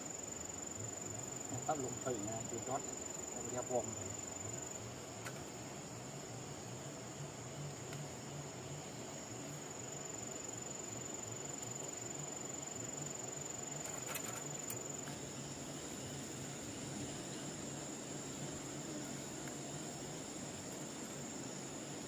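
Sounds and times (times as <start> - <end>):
crickets chirring: 0.0 - 22.0.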